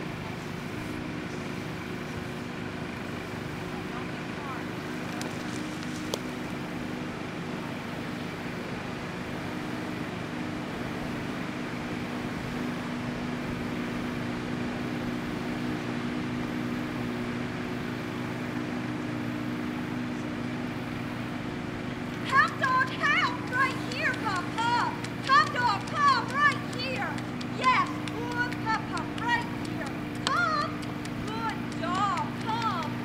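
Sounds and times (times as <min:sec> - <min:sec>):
boat engine droning: 0:00.0 - 0:33.0
outdoor background noise: 0:00.0 - 0:33.0.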